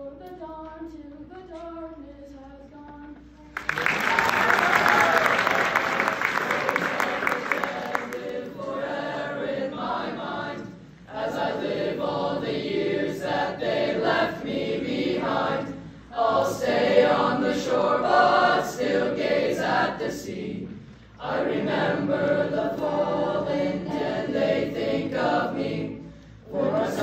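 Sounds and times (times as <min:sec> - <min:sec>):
boys' choir singing: 0:04.0 - 0:27.0.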